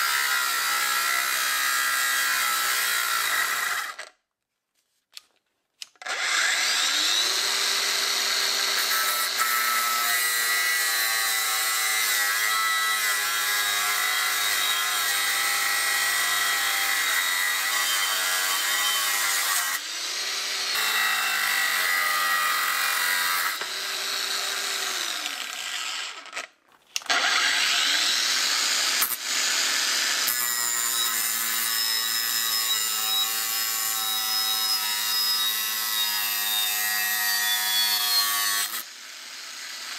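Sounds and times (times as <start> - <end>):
angle grinder cutting steel: 0.0 - 4.1, 6.0 - 39.9.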